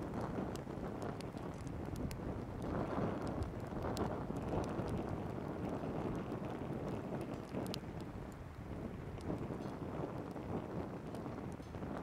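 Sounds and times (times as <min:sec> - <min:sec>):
small wood crackling in stove: 0:00.0 - 0:12.0
wind rushing over microphone: 0:00.0 - 0:12.0.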